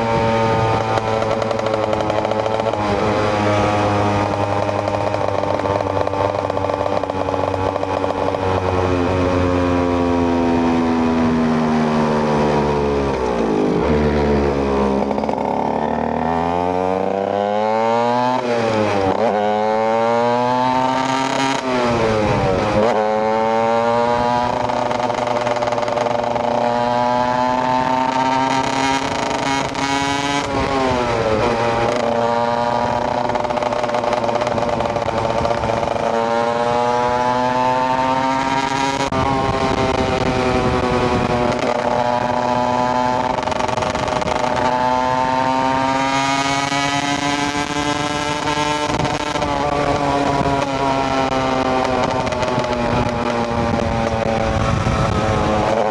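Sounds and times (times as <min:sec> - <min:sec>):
two-stroke motorcycle engine: 0:00.0 - 0:55.9.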